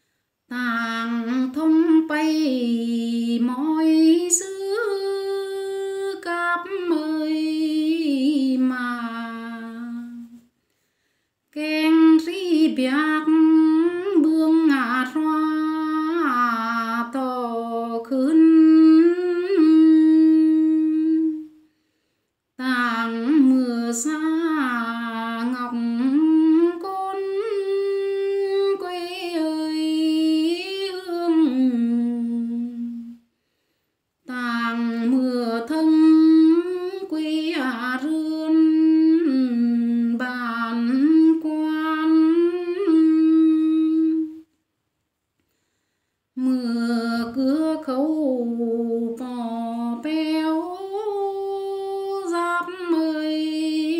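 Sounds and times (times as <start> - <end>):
woman singing unaccompanied: 0.5 - 10.5, 11.5 - 21.6, 22.6 - 33.2, 34.2 - 44.5, 46.4 - 53.9.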